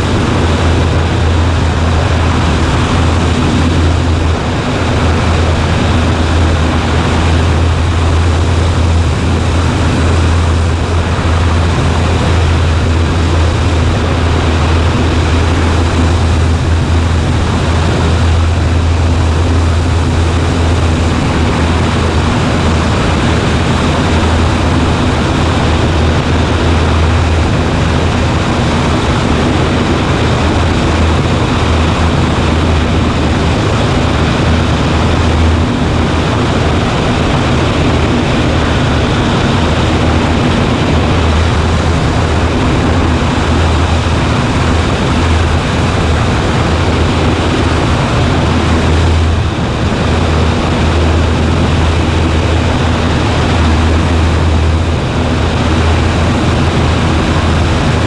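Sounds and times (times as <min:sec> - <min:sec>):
light plane engine drone: 0:00.0 - 0:58.0.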